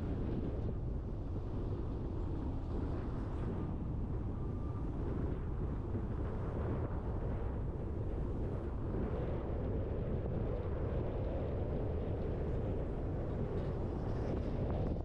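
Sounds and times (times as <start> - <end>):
tyre and wind noise: 0.0 - 15.0.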